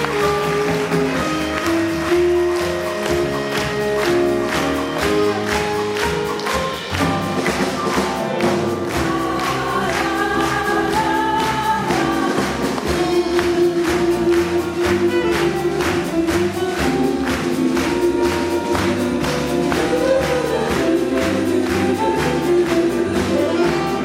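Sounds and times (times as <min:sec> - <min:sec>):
jazz vocal ensemble singing: 0:00.0 - 0:24.0.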